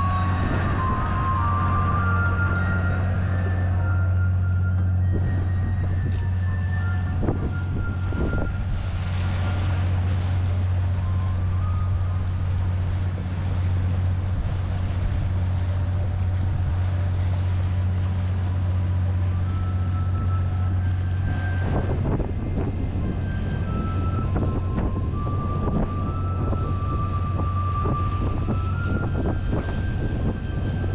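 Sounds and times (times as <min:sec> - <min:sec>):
boat engine humming: 0:00.0 - 0:30.9.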